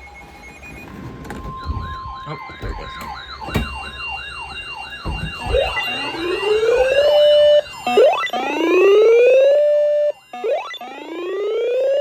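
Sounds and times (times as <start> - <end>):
rising electronic siren: 0.0 - 12.0.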